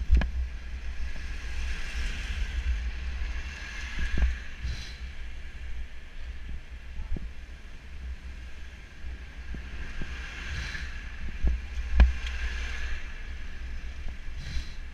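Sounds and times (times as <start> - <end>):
wind rumbling on microphone: 0.0 - 14.9.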